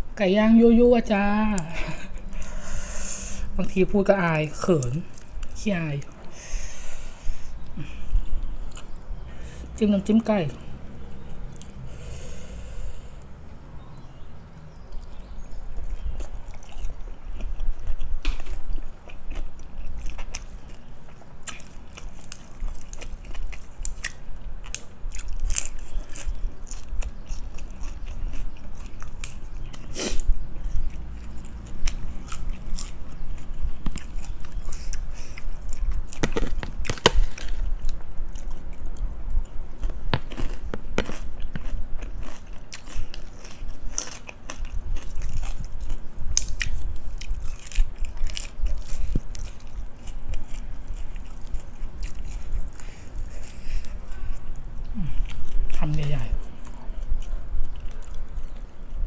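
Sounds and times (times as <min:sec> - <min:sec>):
crunchy food chewing: 0:01.0 - 0:59.0.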